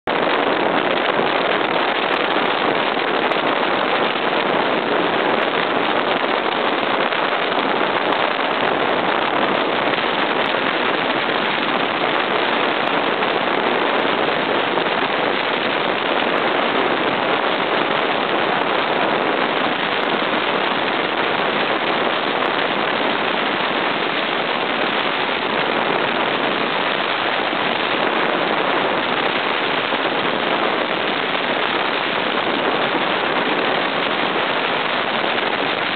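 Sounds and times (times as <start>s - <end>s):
boat engine running: 0.0s - 35.9s.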